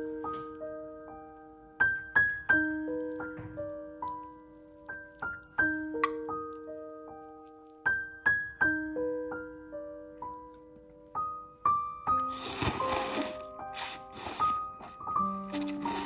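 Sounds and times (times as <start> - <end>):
piano notes ringing: 0.0 - 16.0.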